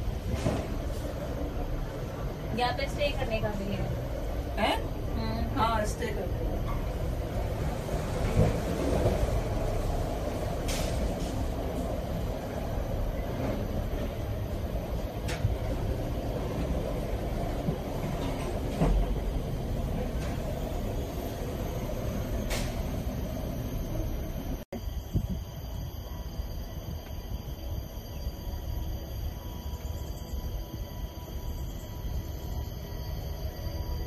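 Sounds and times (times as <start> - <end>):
cable car rumbling: 0.0 - 34.0.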